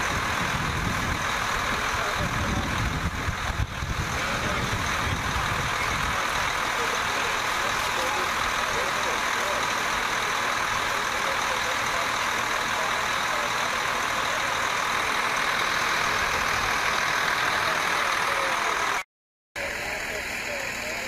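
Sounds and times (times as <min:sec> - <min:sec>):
engine running steadily: 0:00.0 - 0:19.0, 0:19.6 - 0:21.0.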